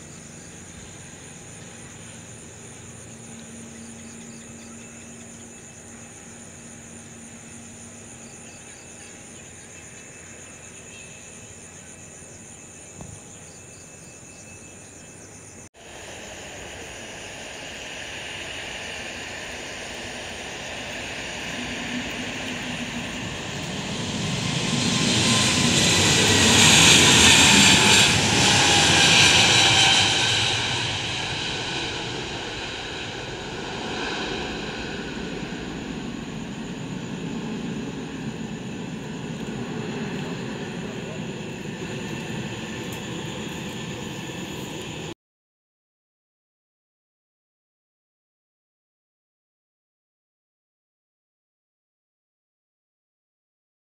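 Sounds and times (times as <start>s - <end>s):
jet engines at takeoff: 0.0s - 45.2s.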